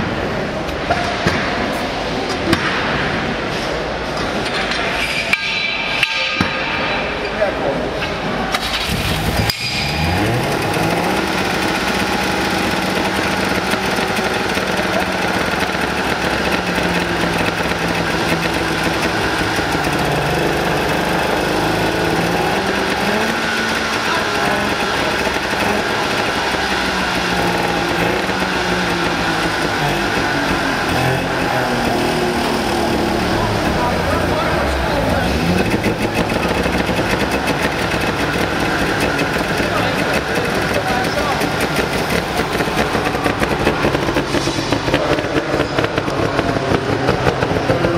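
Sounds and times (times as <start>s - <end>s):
two-stroke engine revving: 8.5s - 47.9s.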